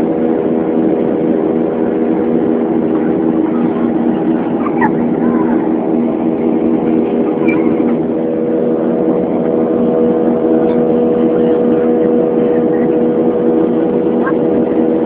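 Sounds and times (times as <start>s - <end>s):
jet engine and airflow drone: 0.0s - 15.0s
low tonal hum: 0.0s - 15.0s.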